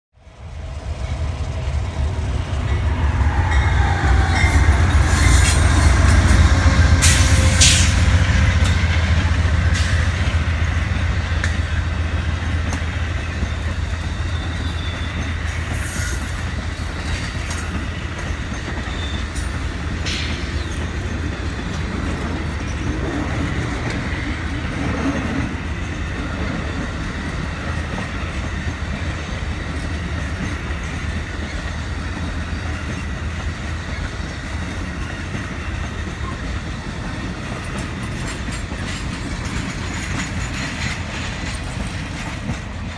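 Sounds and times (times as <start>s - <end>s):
train rumbling past: 0.2s - 42.9s
wheels clicking over rail joints: 5.4s - 42.9s.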